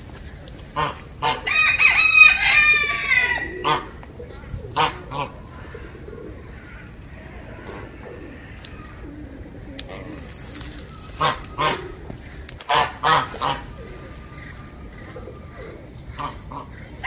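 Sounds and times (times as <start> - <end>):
harsh bird calls: 0.0 - 17.0.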